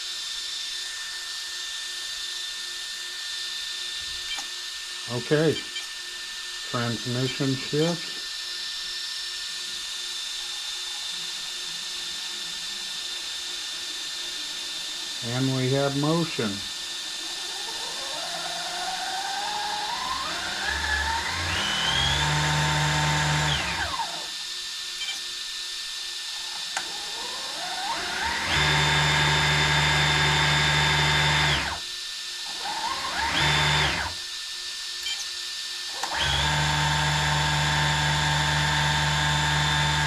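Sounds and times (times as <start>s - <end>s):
electric motors whining: 5.2s - 34.4s, 35.9s - 40.0s.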